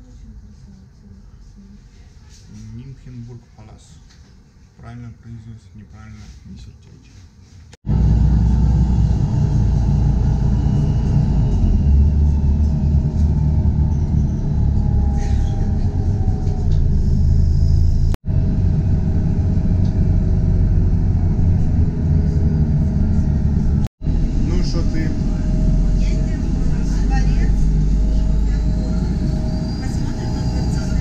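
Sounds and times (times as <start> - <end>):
bus low rumble: 0.0 - 4.1, 7.6 - 31.0.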